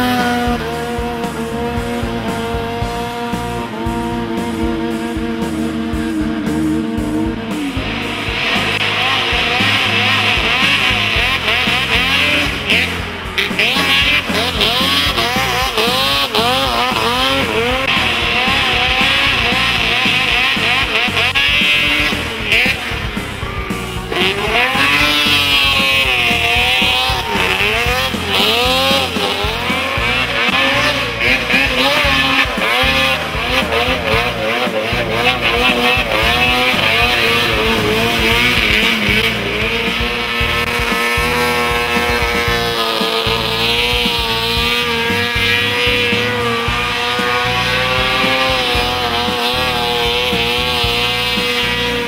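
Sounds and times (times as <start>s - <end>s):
snowmobile engines revving: 0.0s - 52.0s.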